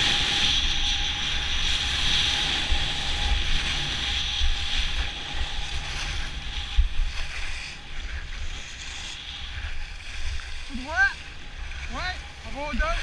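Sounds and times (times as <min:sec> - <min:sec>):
skis sliding on packed snow: 0:00.0 - 0:13.0
wind buffeting microphone: 0:00.0 - 0:13.0.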